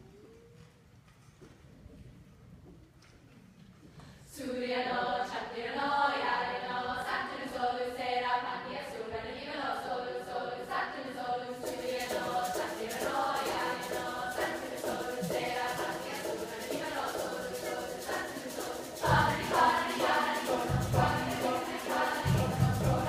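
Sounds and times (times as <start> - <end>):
mixed choir singing: 4.3 - 23.0.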